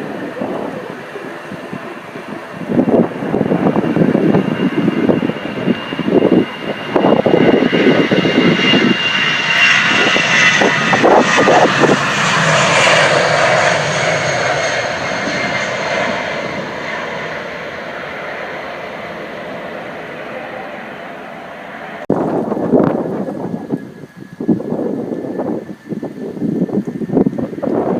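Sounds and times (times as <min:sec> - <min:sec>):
jet airliner taking off: 0:00.0 - 0:27.9
wind buffeting microphone: 0:00.0 - 0:27.9.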